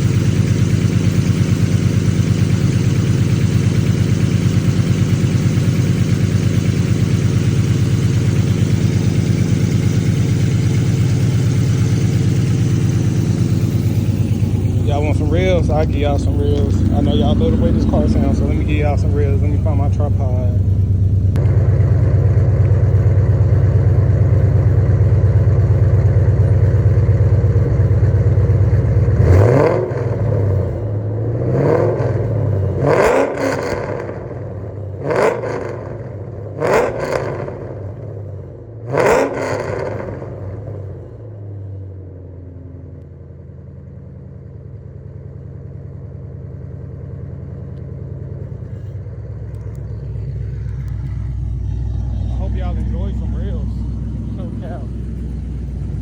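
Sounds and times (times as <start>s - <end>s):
car engine revving: 0.0s - 41.2s, 47.7s - 56.0s.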